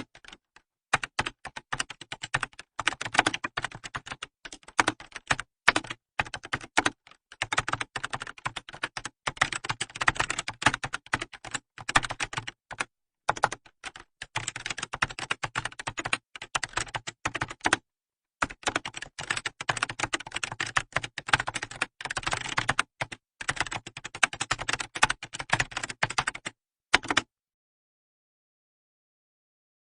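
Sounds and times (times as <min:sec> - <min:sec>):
fast typing on a keyboard: 0:00.0 - 0:17.8, 0:18.4 - 0:27.3.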